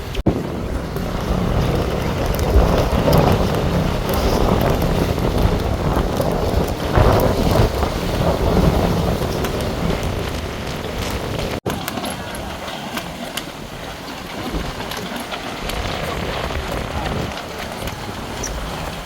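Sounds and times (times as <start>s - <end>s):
gusty wind buffeting microphone: 0.0s - 19.0s.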